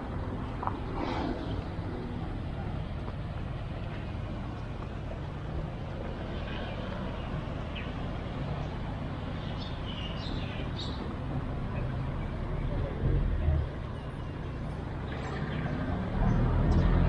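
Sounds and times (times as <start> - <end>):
road traffic hum and rumble: 0.0 - 17.0.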